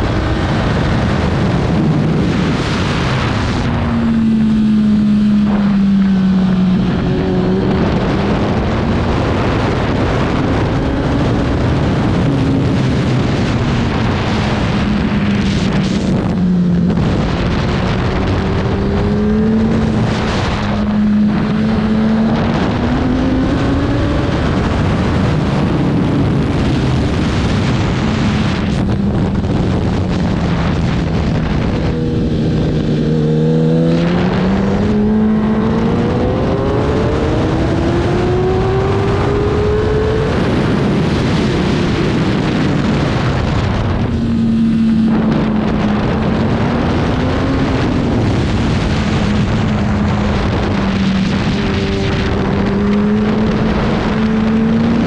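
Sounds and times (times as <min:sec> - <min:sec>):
racing motorcycle engine: 0:00.0 - 0:55.0
wind on microphone: 0:00.0 - 0:55.0.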